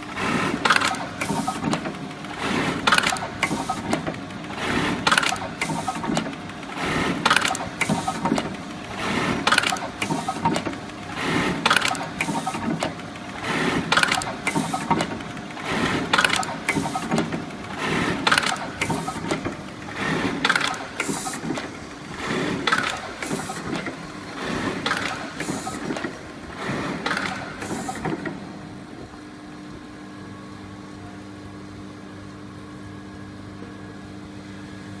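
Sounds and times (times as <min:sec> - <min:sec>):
steady low machine hum: 0:00.0 - 0:35.0
sewing machine stitching with clacks: 0:00.2 - 0:28.4.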